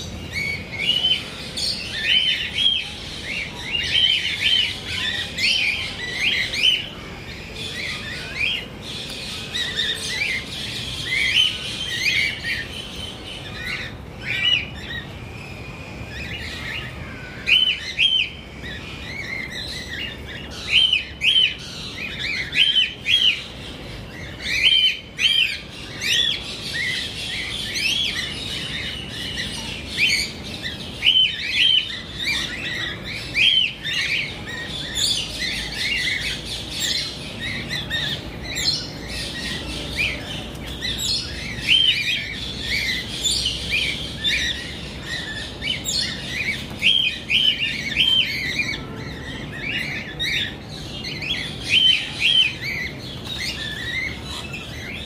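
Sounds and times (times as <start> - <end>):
cockatiels chirping: 0.0 - 55.0
faint continuous bird chatter: 0.0 - 55.0.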